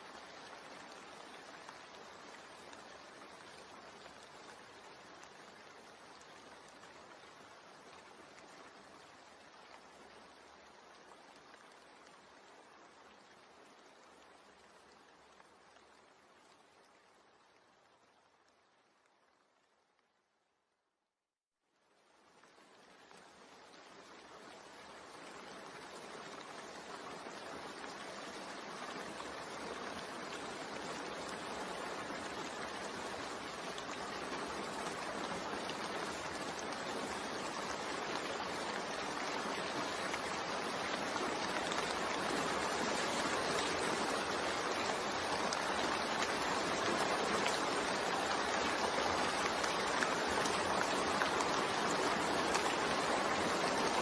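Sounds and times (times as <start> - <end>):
steady rain falling: 0.0 - 20.8, 21.6 - 54.0.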